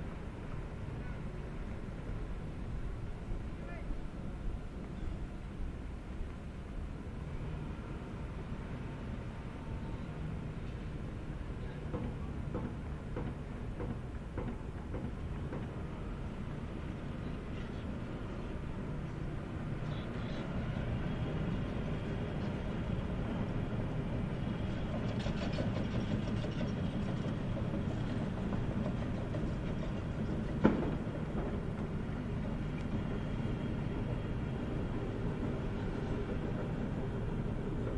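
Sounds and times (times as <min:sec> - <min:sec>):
distant traffic: 0:00.0 - 0:37.9.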